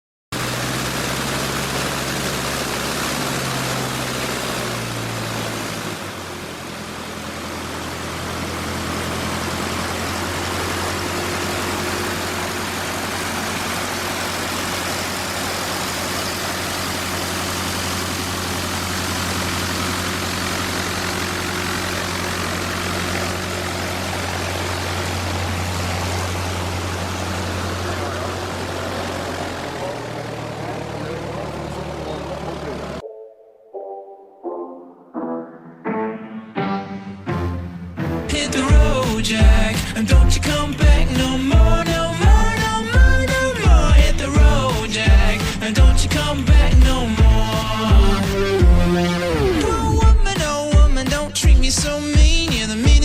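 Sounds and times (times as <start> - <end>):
light aircraft propeller engine: 0.4 - 33.0, 38.7 - 53.0.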